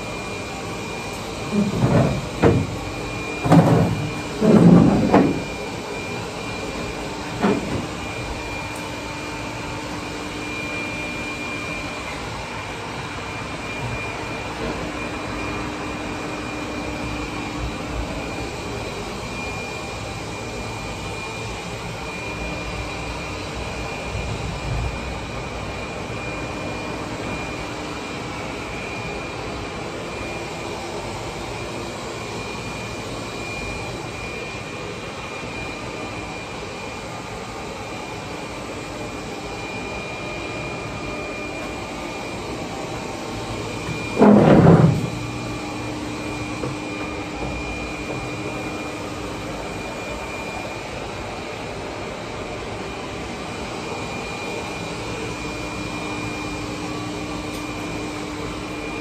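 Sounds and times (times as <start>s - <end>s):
mechanical hum with whine: 0.0s - 59.0s.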